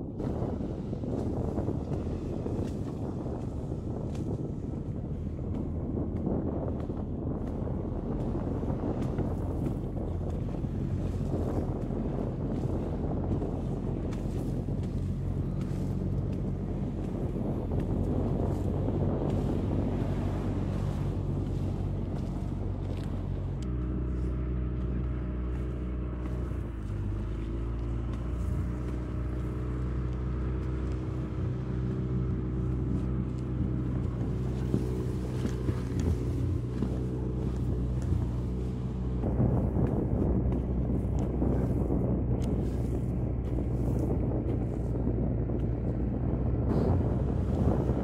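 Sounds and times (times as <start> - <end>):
outboard motor running: 0.0 - 48.0
water noise: 0.0 - 48.0
wind noise: 0.0 - 48.0.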